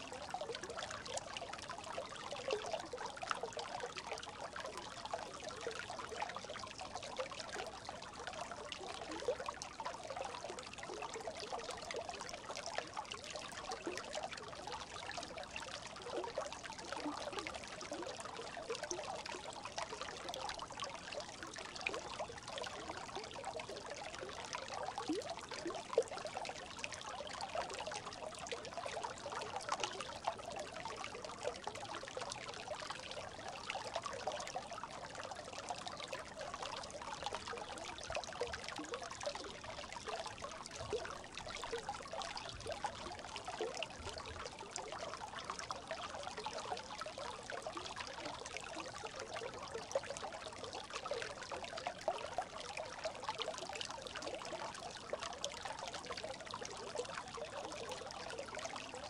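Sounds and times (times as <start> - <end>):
brook babbling: 0.0 - 59.0.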